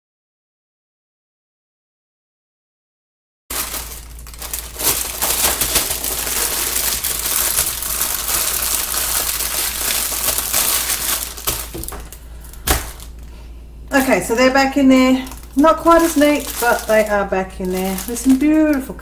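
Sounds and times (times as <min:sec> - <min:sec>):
plastic bags crinkling: 0:03.5 - 0:19.0.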